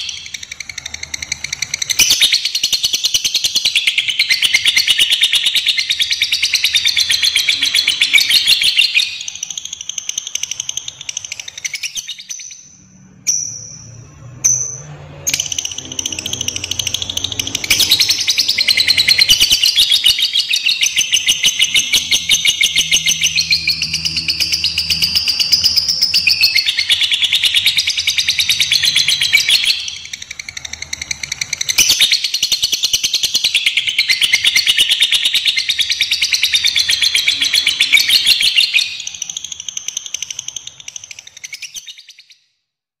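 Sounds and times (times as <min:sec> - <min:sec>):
lovebird chattering trill: 0:00.0 - 0:12.7, 0:15.3 - 0:42.2.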